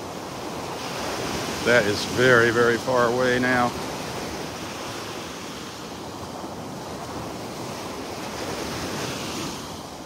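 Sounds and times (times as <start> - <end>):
surf washing onto beach: 0.0 - 10.0
wind buffeting microphone: 0.0 - 10.0.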